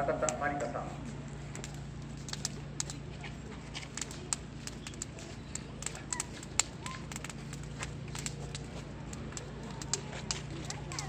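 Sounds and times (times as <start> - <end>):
bonfire crackling and popping: 0.0 - 11.0
steady low hum: 0.0 - 11.0.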